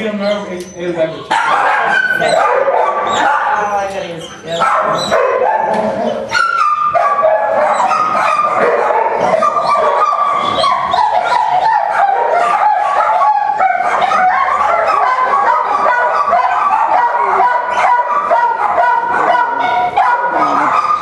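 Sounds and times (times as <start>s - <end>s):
puppies whimpering and squealing: 0.0s - 21.0s.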